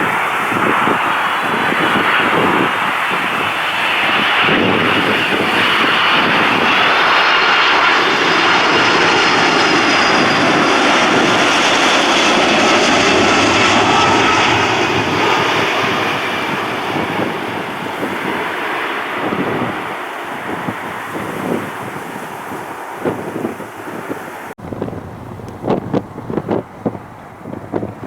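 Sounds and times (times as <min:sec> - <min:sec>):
high engine whine: 0:00.0 - 0:22.9, 0:24.3 - 0:28.0
jet engines roaring: 0:00.0 - 0:28.0.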